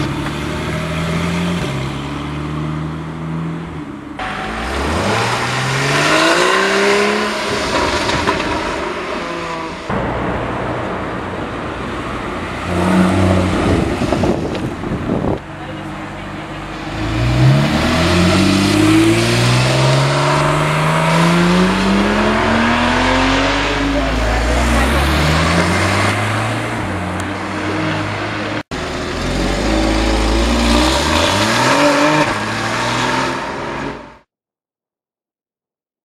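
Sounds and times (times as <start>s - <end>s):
sports car engines accelerating: 0.0s - 8.6s, 12.7s - 34.3s.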